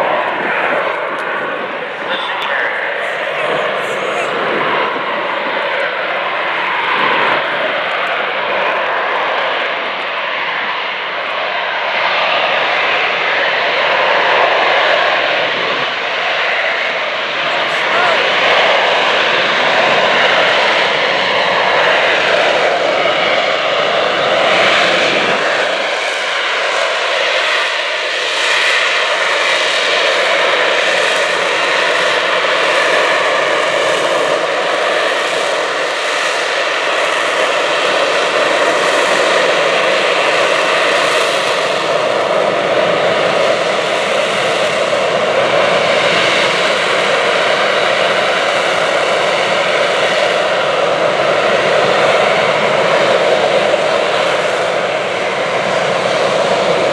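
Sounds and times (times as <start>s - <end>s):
jet engine roaring with whine: 0.0s - 56.9s.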